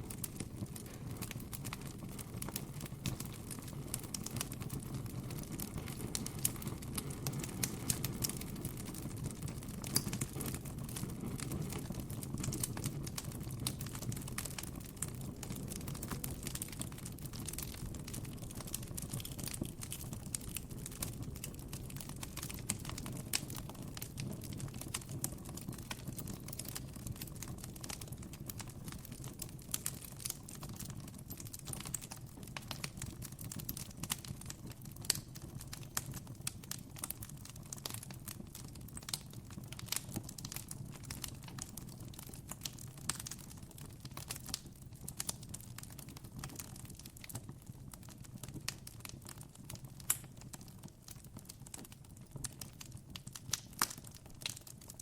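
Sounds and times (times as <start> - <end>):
campfire crackling and popping: 0.0 - 55.0
low rumble of burning wood: 0.0 - 55.0.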